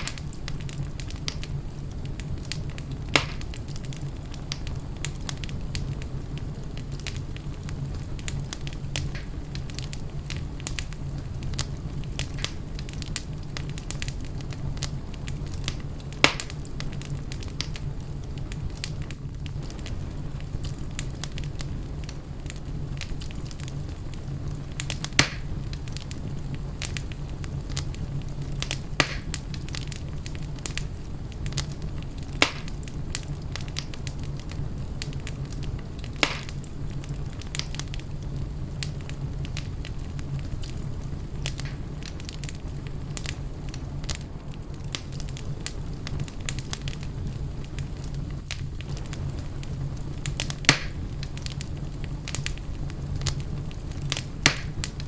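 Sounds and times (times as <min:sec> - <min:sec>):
fire crackling: 0:00.0 - 0:55.0
fire popping: 0:00.0 - 0:55.0.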